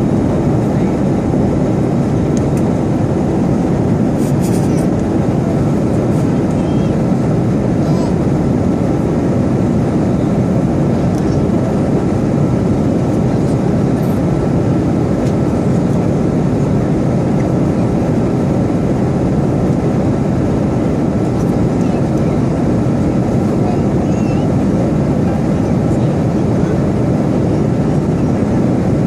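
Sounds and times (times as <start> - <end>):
airliner cabin engine noise: 0.0 - 29.0.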